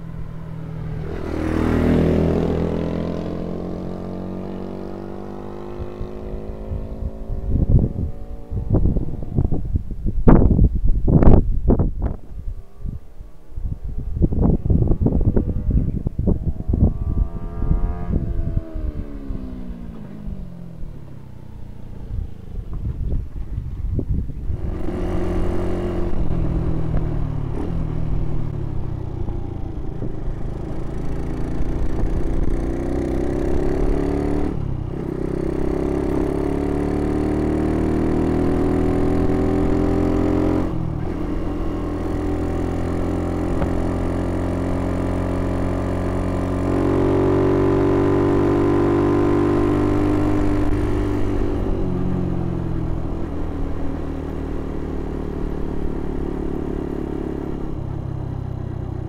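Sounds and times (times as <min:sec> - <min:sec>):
motorcycle passing by: 0:00.0 - 0:10.5, 0:11.1 - 0:59.0
motorcycle accelerating and shifting: 0:00.0 - 0:59.0.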